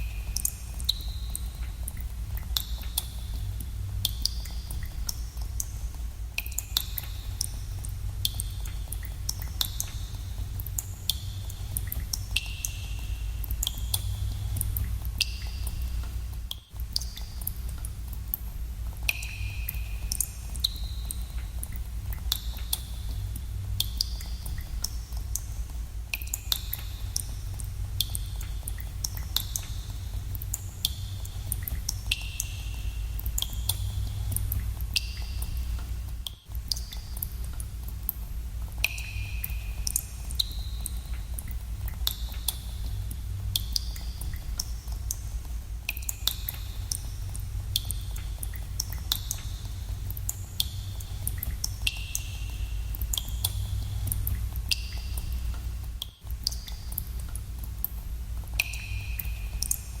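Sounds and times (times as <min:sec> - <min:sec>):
steady low rumble: 0:00.0 - 1:00.0
water drops plinking into pools: 0:00.0 - 1:00.0.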